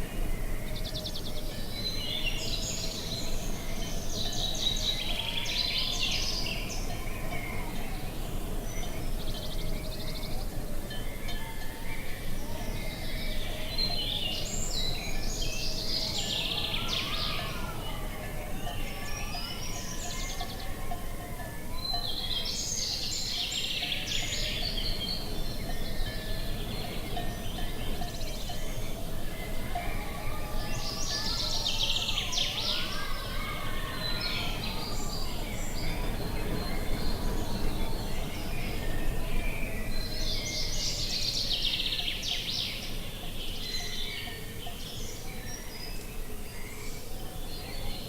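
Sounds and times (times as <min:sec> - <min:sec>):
birds chirping and trilling: 0:00.0 - 0:48.0
low rumble of wind: 0:00.0 - 0:48.0.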